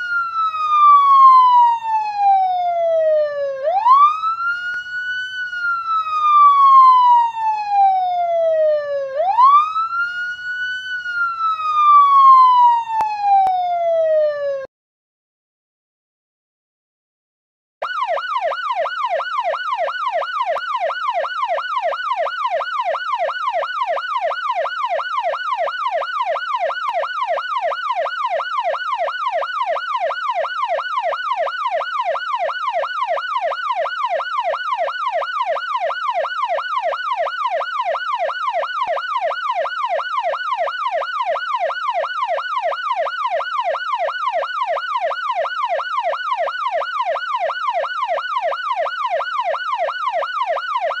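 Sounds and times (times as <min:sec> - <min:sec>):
police siren yelping: 0:00.0 - 0:14.7, 0:17.8 - 0:51.0.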